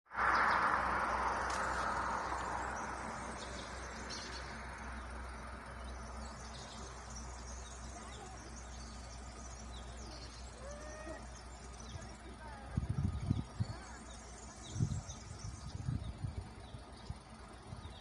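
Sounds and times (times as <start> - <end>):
low steady hum: 0.2 - 18.0
small birds chirping: 0.2 - 18.0.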